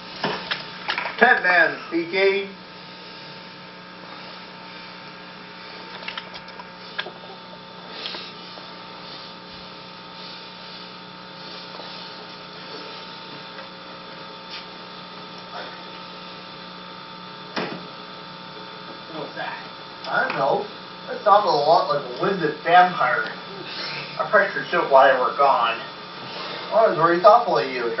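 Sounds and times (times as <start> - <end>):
electrical hum: 0.0 - 28.0.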